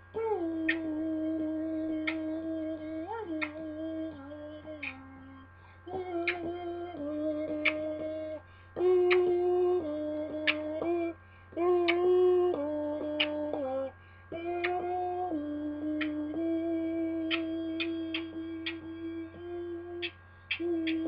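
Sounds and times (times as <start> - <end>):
person humming a slow tune: 0.0 - 21.0.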